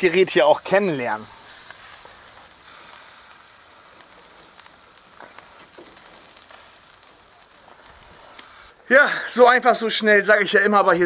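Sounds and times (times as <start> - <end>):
meat sizzling on a grill: 0.0 - 10.6.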